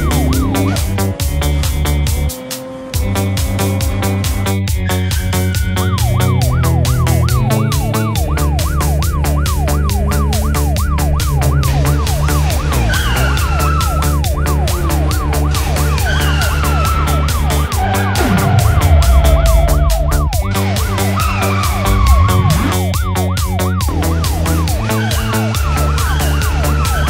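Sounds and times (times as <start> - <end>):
cartoon police siren: 0.0 - 0.9, 5.0 - 27.0
background music with a beat: 0.0 - 27.0.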